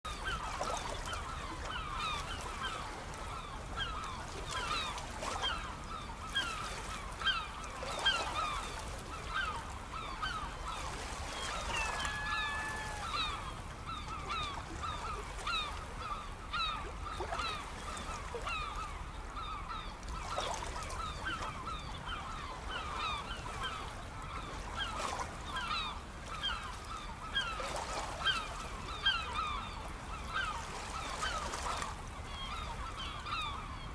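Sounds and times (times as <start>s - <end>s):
flock of birds calling: 0.1s - 33.9s.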